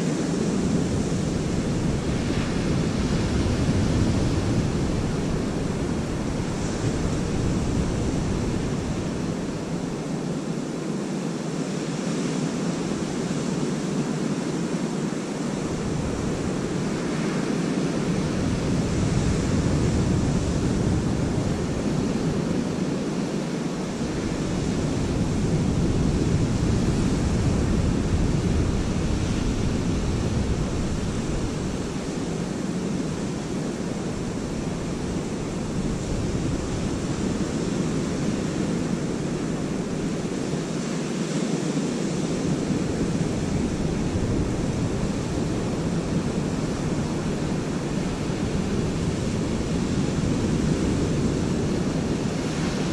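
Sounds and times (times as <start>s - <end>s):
waves washing up beach: 0.0s - 52.9s
wind rumble on microphone: 0.0s - 52.9s.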